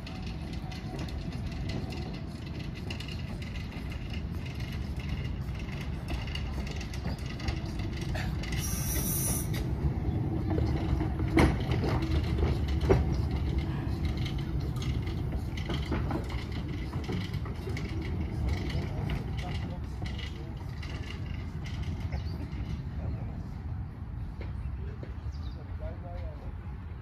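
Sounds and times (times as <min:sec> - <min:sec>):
steam locomotive rumbling: 0:00.0 - 0:27.0.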